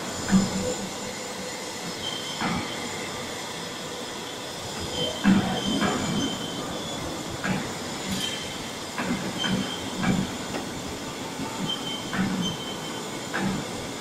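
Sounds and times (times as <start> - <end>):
machine mechanical whir: 0.0 - 14.0.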